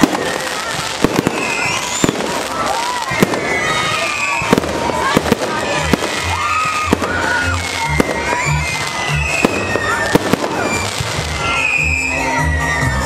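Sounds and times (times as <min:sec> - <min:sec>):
fireworks bangs: 0:00.0 - 0:12.1.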